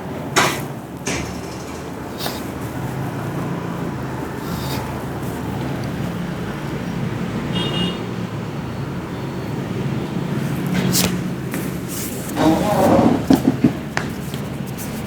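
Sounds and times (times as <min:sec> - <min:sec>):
road traffic with engine hum: 0:00.0 - 0:15.0.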